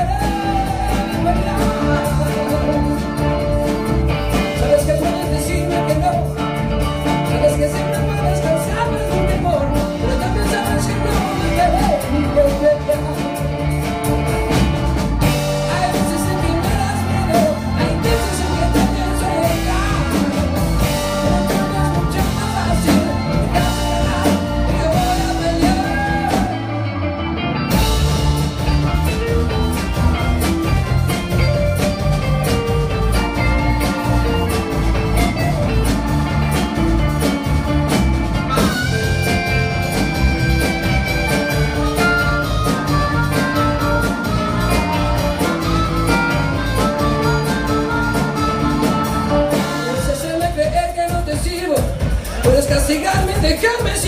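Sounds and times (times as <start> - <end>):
lead singer singing: 0.0 - 54.0
live band playing: 0.0 - 54.0.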